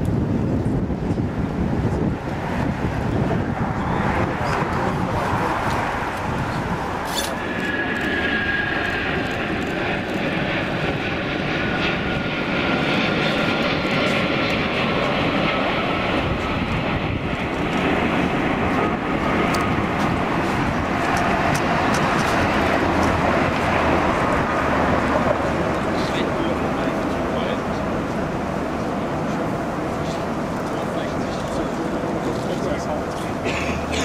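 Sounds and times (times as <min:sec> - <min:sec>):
high engine whine: 0:00.0 - 0:34.0
jet engines running: 0:00.0 - 0:34.0.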